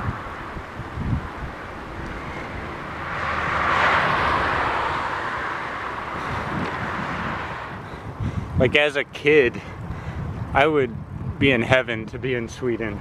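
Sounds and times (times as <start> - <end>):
road vehicle passing: 0.0 - 10.5.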